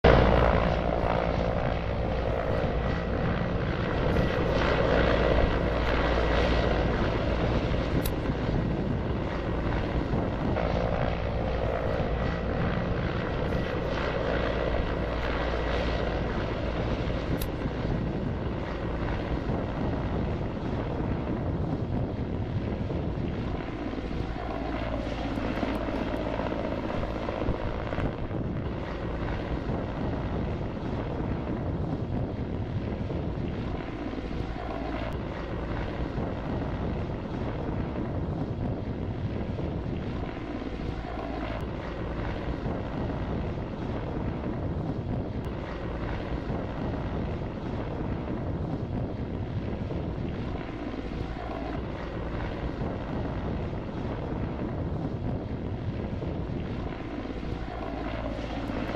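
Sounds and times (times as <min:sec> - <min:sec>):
helicopter rotor and engine drone: 0:00.0 - 0:58.9.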